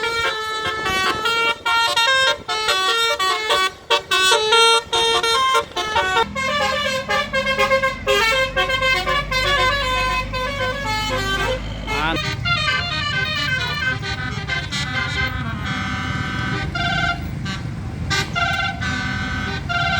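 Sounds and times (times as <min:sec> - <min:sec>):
bus melody horn playing a tune: 0:00.0 - 0:19.9
low engine rumble: 0:00.0 - 0:19.9.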